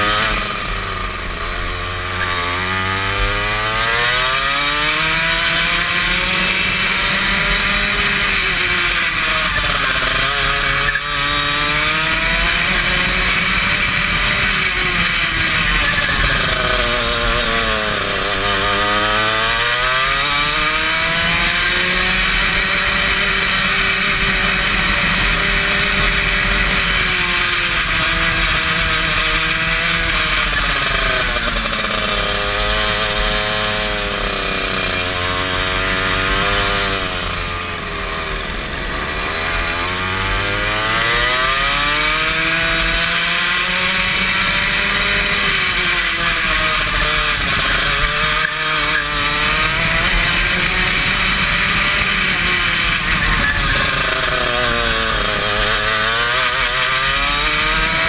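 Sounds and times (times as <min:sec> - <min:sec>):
racing kart engine revving: 0:00.0 - 0:58.0.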